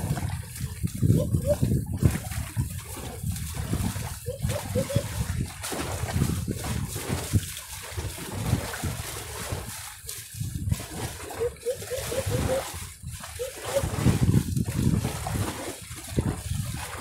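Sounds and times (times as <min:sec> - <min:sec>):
seawater splashing against rocks: 0:00.0 - 0:17.0.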